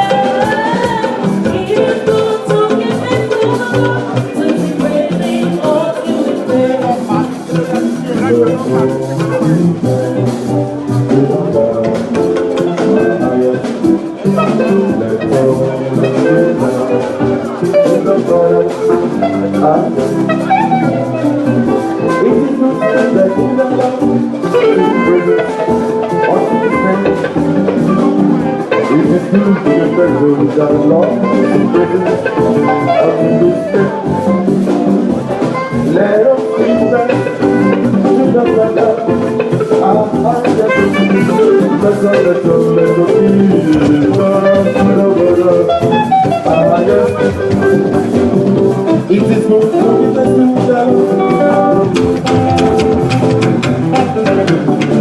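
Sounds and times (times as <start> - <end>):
church band music: 0.0 - 55.0
drums keeping a beat: 0.0 - 55.0
guitar: 0.0 - 55.0.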